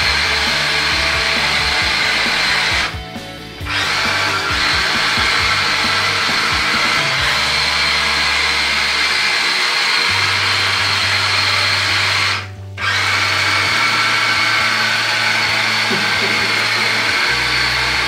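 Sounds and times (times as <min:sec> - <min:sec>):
rc car motor whine: 0:00.0 - 0:18.0.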